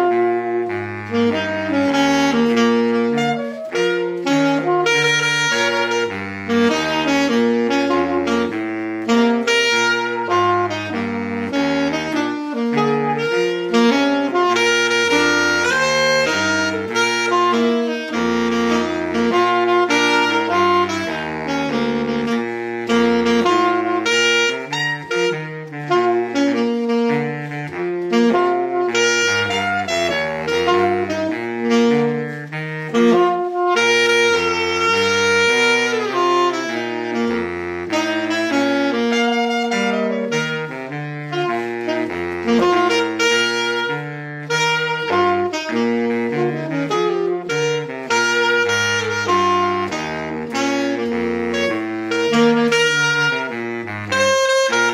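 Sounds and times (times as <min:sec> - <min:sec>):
saxophone ensemble playing: 0:00.0 - 0:54.9.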